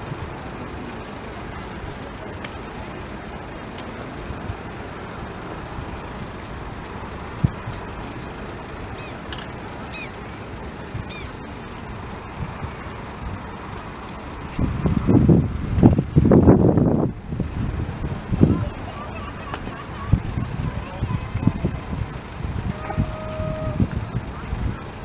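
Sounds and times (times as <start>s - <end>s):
distant road traffic: 0.0s - 25.0s.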